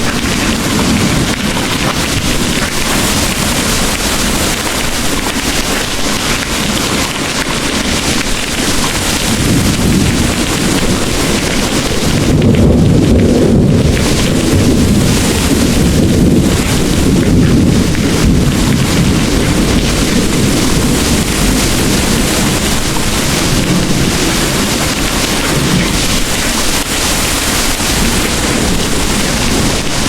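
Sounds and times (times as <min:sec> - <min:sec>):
heavy rain falling: 0:00.0 - 0:30.0
thunder rumbling: 0:00.0 - 0:30.0.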